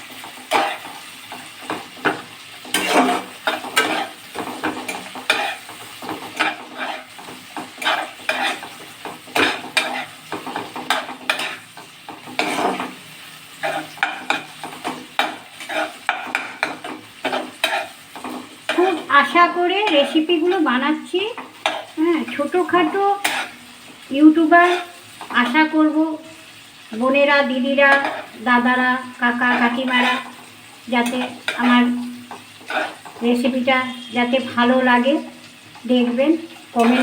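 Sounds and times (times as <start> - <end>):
spatula scraping a pan: 0.0 - 25.8, 26.5 - 37.0
onions frying in oil sizzling: 0.0 - 37.0.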